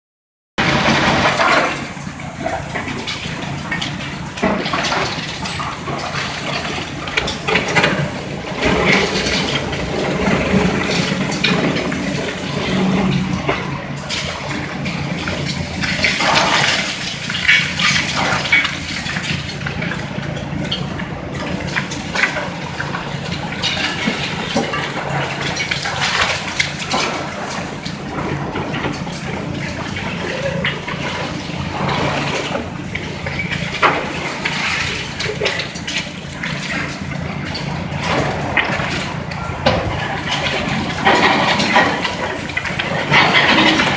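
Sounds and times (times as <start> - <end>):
falling debris: 0.6 - 20.0, 20.7 - 43.9
concrete crunching and clattering: 0.6 - 43.9
diesel engine running: 0.6 - 43.9.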